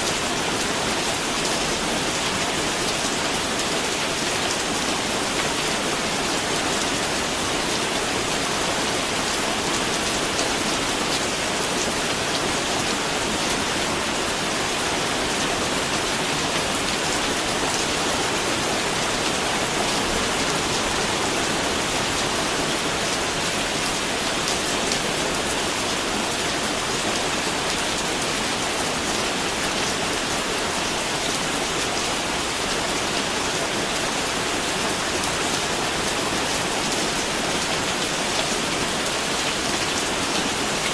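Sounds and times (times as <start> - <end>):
steady rain pattering: 0.0 - 40.9.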